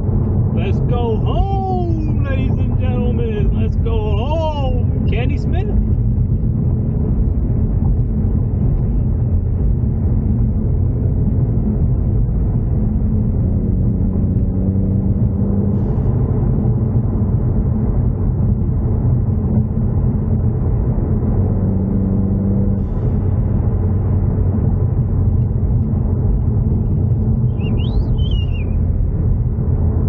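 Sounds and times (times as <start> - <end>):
car engine running while driving: 0.0 - 30.0
road and wind noise: 0.0 - 30.0.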